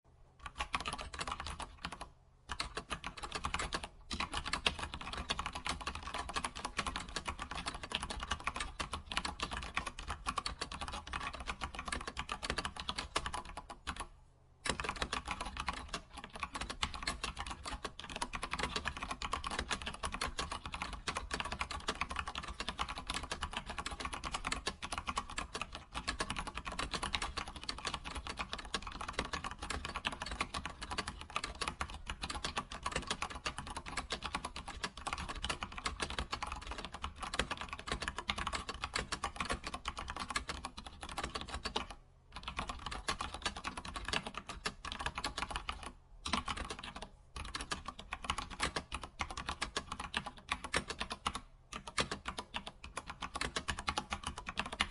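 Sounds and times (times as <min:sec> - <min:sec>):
fast keyboard typing: 0:00.4 - 0:54.9.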